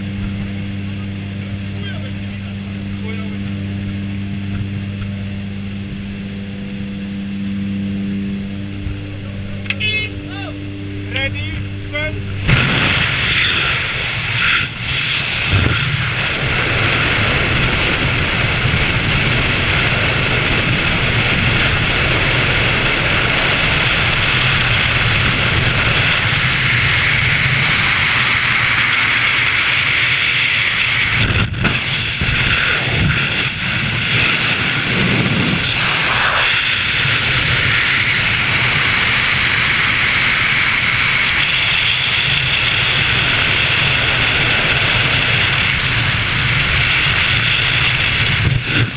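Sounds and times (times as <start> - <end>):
freefall wind buffeting microphone: 0.0 - 48.9.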